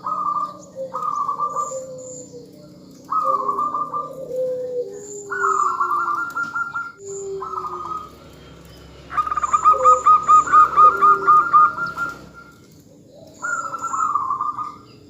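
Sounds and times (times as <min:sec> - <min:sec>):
dove cooing: 0:00.0 - 0:15.0
dove trilled call: 0:00.0 - 0:15.0.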